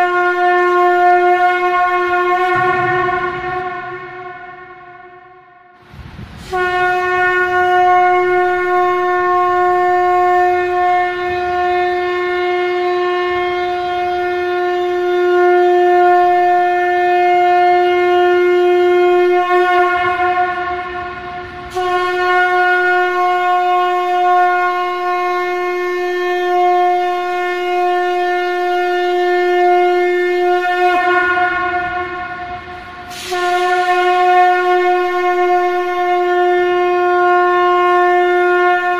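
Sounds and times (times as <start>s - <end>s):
conch shell blasts: 0.0s - 38.9s.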